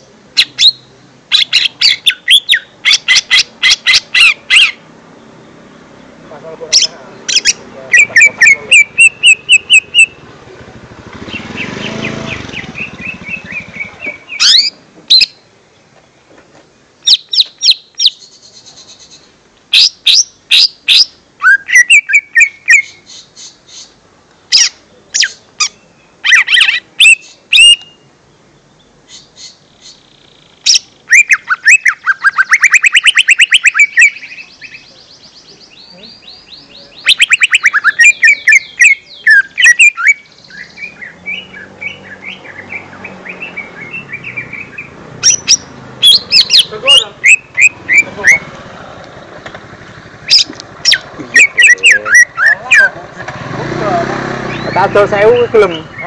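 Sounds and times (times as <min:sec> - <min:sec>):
bird singing chirps and whistles: 0:00.4 - 0:04.8, 0:06.8 - 0:10.3, 0:11.3 - 0:15.4, 0:17.0 - 0:23.9, 0:24.5 - 0:28.1, 0:28.8 - 0:48.5, 0:50.3 - 0:53.0, 0:54.5 - 0:56.0.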